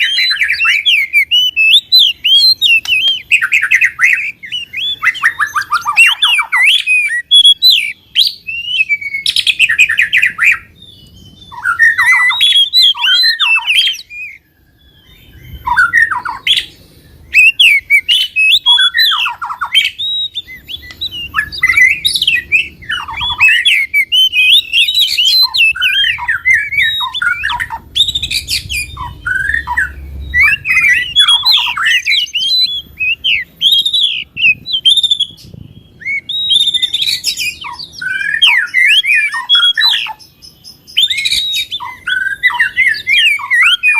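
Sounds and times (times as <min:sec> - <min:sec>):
songbird chattering and trilling: 0:00.0 - 0:43.9.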